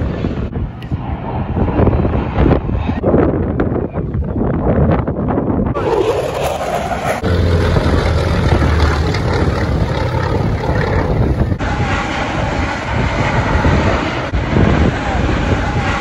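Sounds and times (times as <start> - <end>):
fighter jet noise: 0.0 - 3.5, 5.6 - 16.0.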